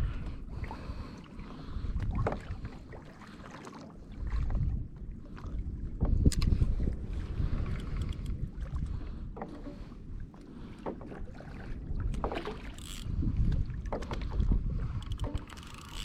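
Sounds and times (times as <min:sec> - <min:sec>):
wind rumbling on microphone: 0:00.0 - 0:03.3, 0:04.0 - 0:16.0
water moving around a kayak: 0:00.0 - 0:16.0.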